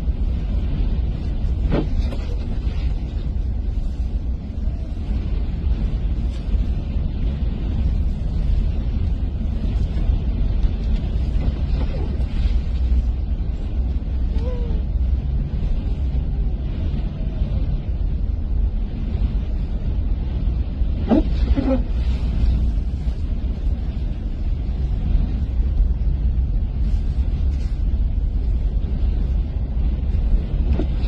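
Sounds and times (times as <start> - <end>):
loud low rumbling: 0.0 - 31.0.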